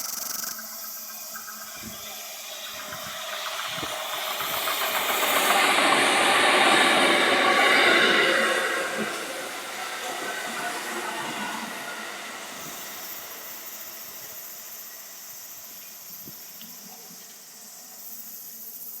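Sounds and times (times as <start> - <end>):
train rolling noise: 0.0 - 18.4
cicadas droning: 0.0 - 19.0.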